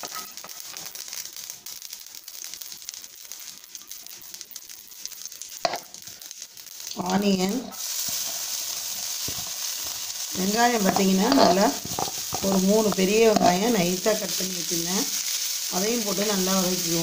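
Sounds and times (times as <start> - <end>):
onions sizzling in oil: 0.0 - 17.0
seeds sizzling in hot oil: 0.0 - 17.0.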